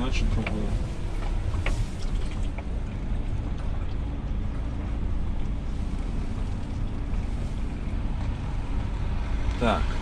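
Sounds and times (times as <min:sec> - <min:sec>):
truck diesel engine drone: 0:00.0 - 0:10.0.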